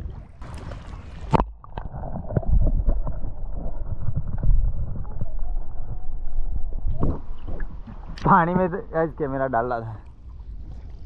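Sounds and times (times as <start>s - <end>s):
muffled underwater sloshing: 0.0s - 11.0s.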